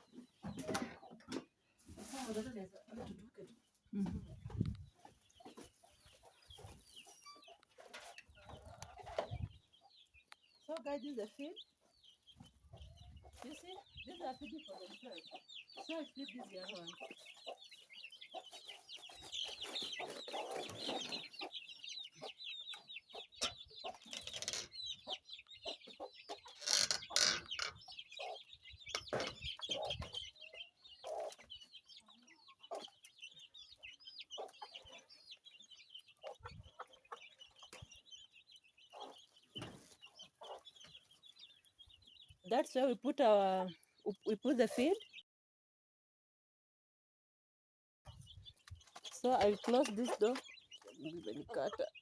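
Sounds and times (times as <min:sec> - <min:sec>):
chickens clucking: 0:00.0 - 0:45.2, 0:48.1 - 0:52.0
chicks peeping: 0:00.0 - 0:45.2, 0:48.1 - 0:52.0.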